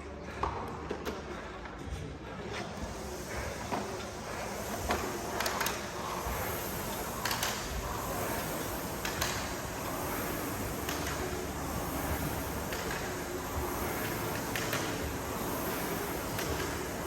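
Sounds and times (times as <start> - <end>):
steady background hiss: 2.4 - 17.0.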